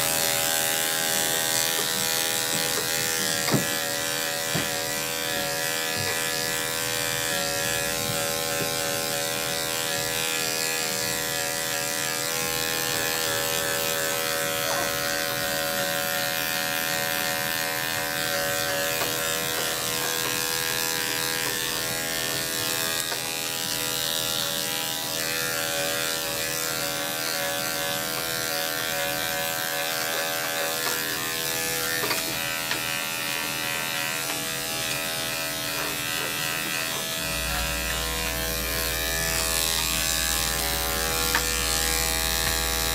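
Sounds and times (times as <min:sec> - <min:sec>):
electric clippers motor hum: 0:00.0 - 0:42.9.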